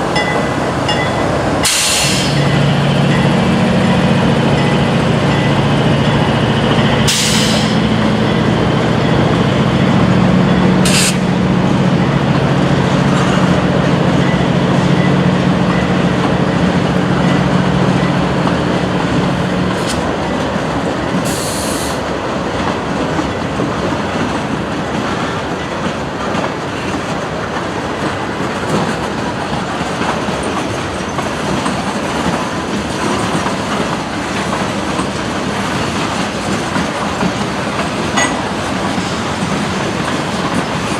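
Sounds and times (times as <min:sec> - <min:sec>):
diesel locomotive engines droning: 0:00.0 - 0:40.9.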